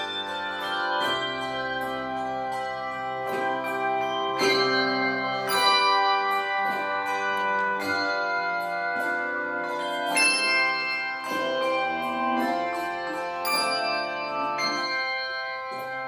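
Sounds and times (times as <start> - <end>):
handbell choir ringing chords: 0.0 - 16.0.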